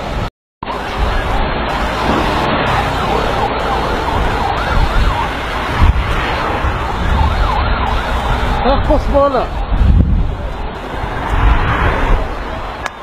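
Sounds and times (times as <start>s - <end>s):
wind and road noise: 0.0s - 13.0s
emergency siren wailing: 0.6s - 12.8s.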